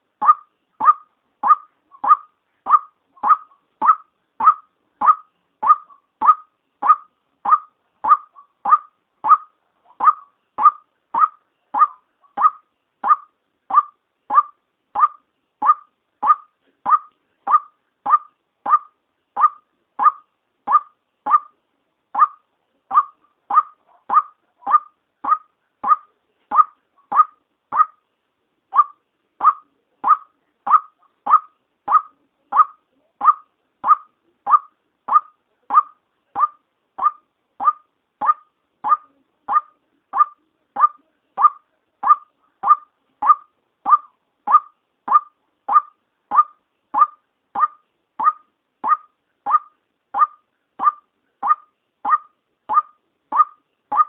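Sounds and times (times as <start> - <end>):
waterhen call: 0.0 - 28.0, 28.7 - 54.0.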